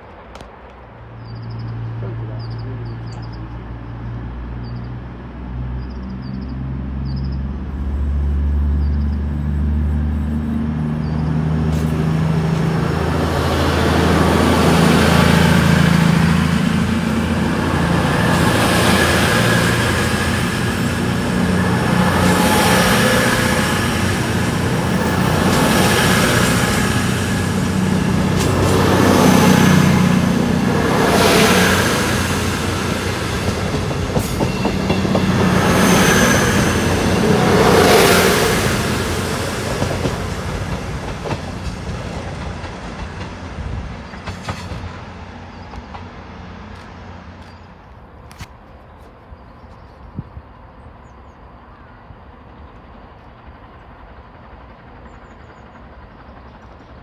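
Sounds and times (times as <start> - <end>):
diesel train engines droning: 0.0 - 57.0
wheels rushing on rails: 0.0 - 57.0.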